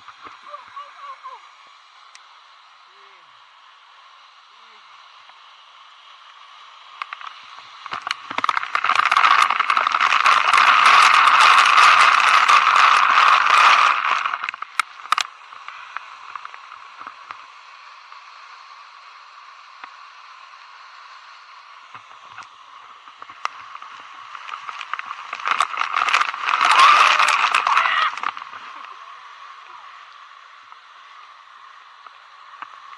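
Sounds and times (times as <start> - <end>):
waterfall water churning: 0.0 - 17.1, 21.7 - 32.9.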